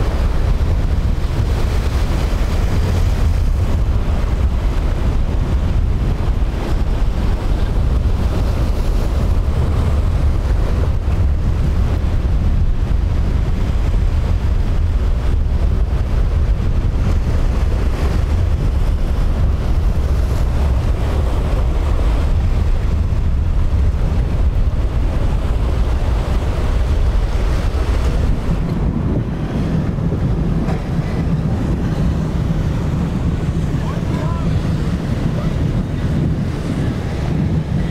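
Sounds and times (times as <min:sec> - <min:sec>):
surf breaking: 0:00.0 - 0:37.9
wind rumbling on microphone: 0:00.0 - 0:37.9.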